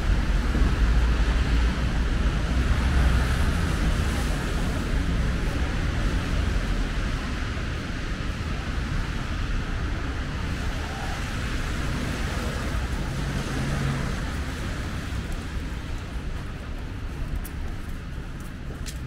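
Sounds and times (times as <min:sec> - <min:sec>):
low rumble of passing cars: 0:00.0 - 0:19.0.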